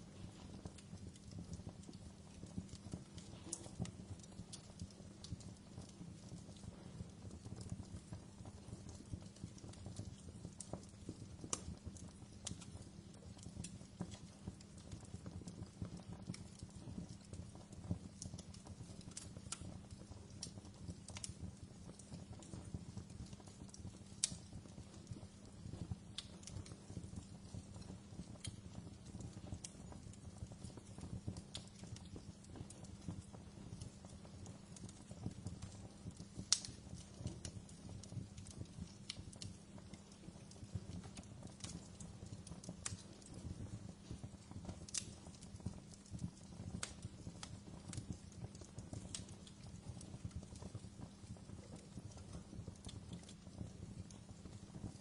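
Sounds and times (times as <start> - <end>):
low rumble of flames: 0.0 - 55.0
wood crackling and popping: 0.0 - 55.0.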